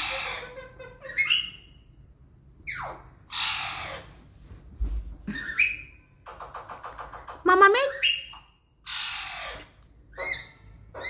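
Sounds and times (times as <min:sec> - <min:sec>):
parakeet squawking and chirping: 0:00.0 - 0:02.0, 0:02.6 - 0:04.2, 0:05.4 - 0:11.0.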